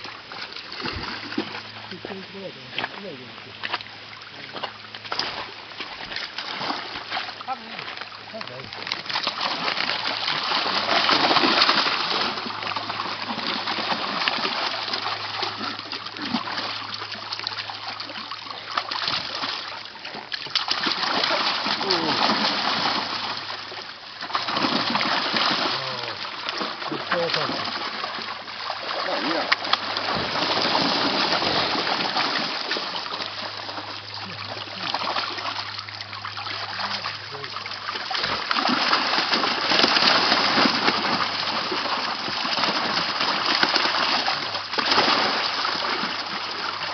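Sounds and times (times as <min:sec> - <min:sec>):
water splashing and sloshing: 0:00.0 - 0:46.9.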